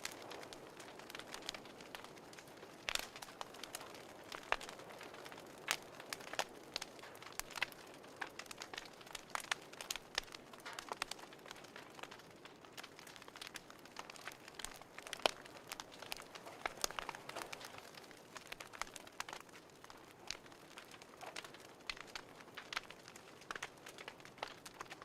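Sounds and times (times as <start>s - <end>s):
soft fire hiss: 0.0s - 25.0s
wood fire crackling and popping: 0.0s - 25.0s.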